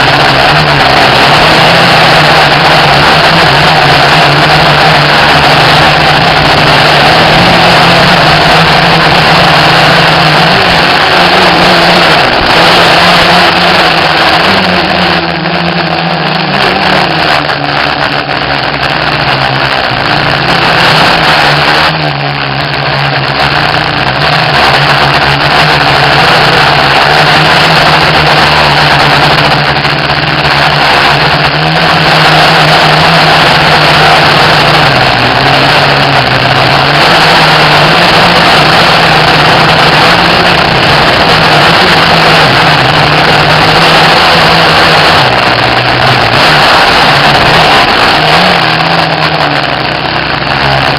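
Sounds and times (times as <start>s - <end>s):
drone motors humming: 0.0s - 50.9s.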